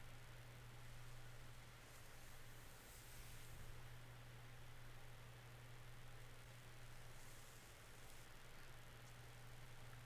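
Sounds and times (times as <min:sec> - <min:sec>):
faint white-noise hiss: 0:00.0 - 0:10.0
low steady hum: 0:00.0 - 0:10.0.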